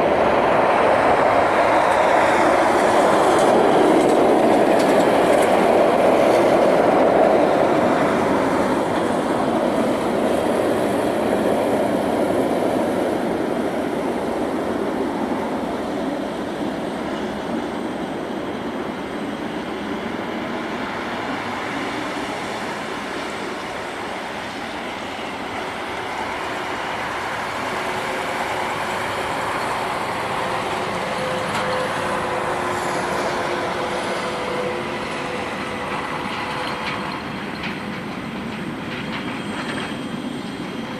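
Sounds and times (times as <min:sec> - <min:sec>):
jet engines rushing: 0:00.0 - 0:40.9.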